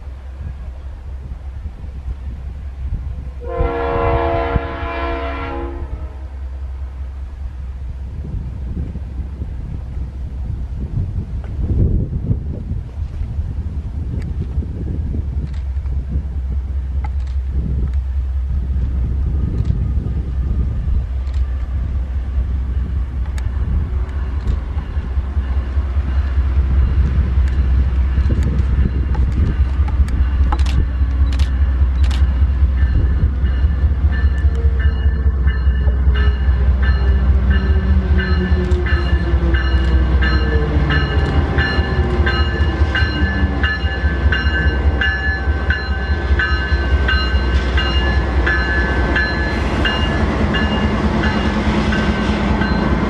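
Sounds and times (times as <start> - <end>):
deep locomotive engine rumble: 0.0 - 53.0.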